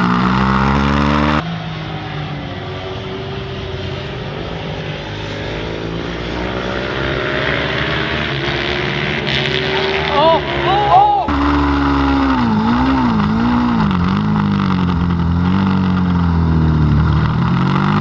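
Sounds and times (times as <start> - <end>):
racing motorcycle engine: 0.0 - 18.0.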